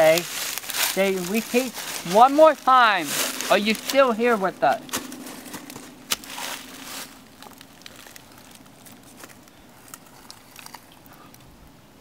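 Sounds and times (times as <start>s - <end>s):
crackling rustle: 0.0s - 11.6s
faint steady hum: 0.0s - 12.0s.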